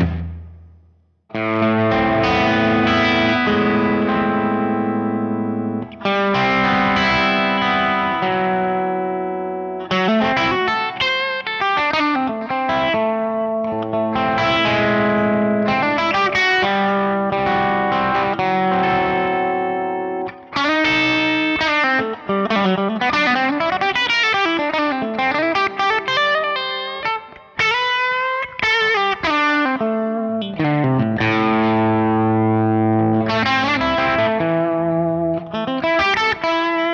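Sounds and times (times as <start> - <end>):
distorted electric guitar: 0.0 - 36.9.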